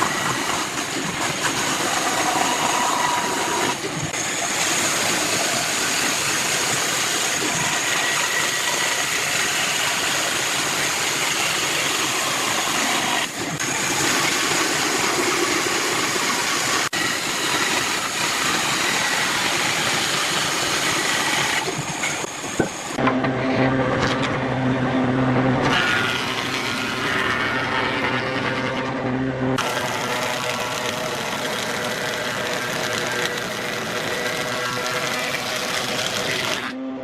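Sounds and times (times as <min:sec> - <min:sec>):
woodworking power tool running: 0:00.0 - 0:37.0.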